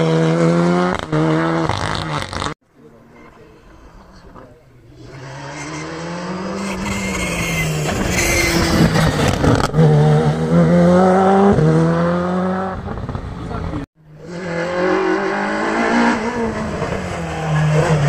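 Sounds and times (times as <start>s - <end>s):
rally car engine revving hard: 0.0s - 2.6s, 5.0s - 18.0s.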